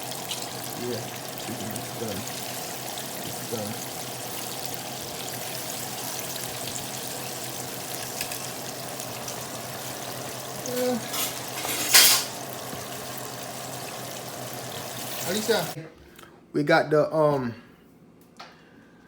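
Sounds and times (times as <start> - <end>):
hot oil sizzling: 0.0 - 15.8.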